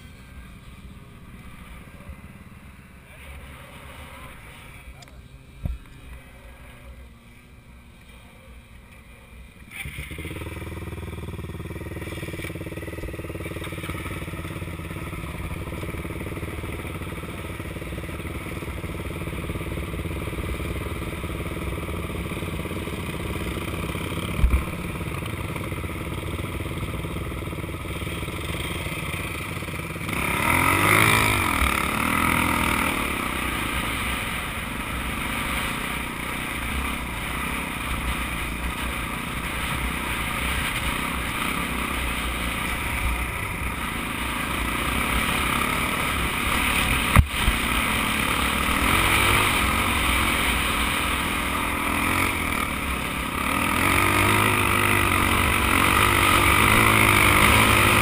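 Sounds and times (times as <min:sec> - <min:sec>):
dirt bike and quad engines idling: 0:00.0 - 0:58.0
dirt bike revving and pulling away: 0:00.0 - 0:58.0.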